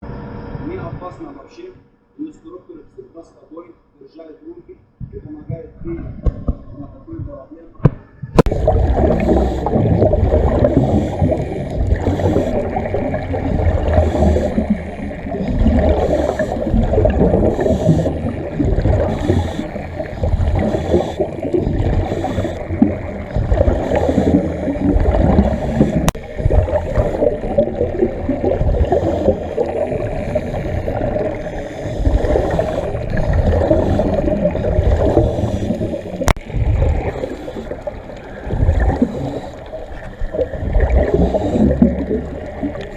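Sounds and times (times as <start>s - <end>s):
muffled underwater rumbling: 4.9s - 42.9s
bubbling: 5.0s - 42.9s.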